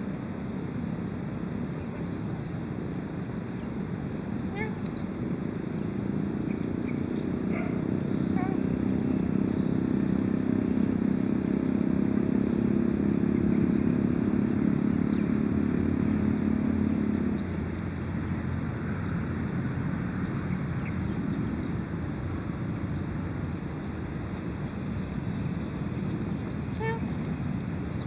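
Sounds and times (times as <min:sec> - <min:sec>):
vehicle engine droning: 0:00.6 - 0:27.8.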